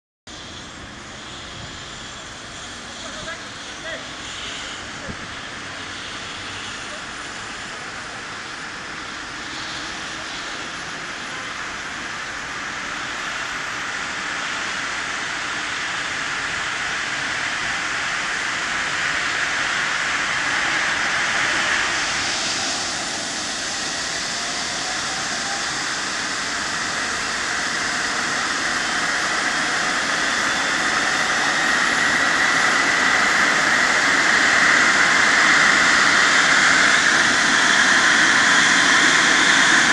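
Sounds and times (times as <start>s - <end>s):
helicopter turbine whine: 0.3s - 39.9s.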